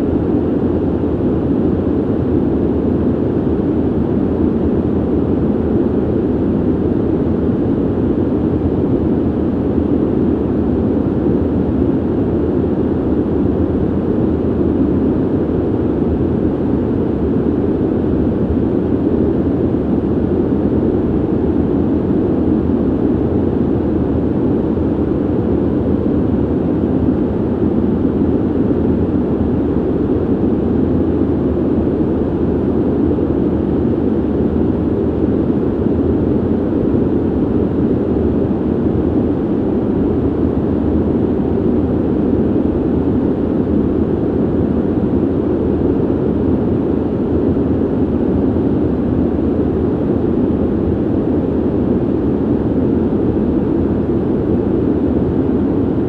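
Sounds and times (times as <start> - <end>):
ventilation airflow hiss: 0.0 - 56.0.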